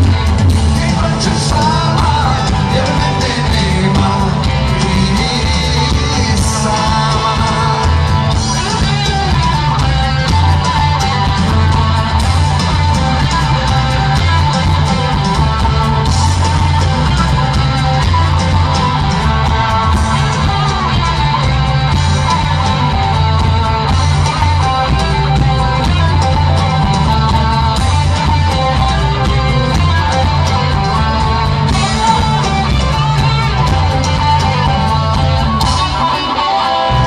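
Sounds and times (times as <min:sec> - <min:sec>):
rock band playing: 0:00.0 - 0:37.0
person singing: 0:00.3 - 0:37.0.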